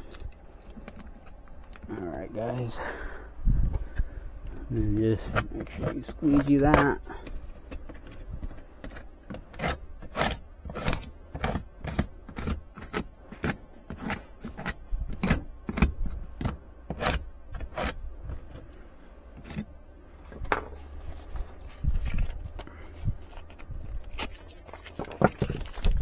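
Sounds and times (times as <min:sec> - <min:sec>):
hand rubbing and scraping strokes: 0:00.0 - 0:14.9, 0:16.9 - 0:26.0.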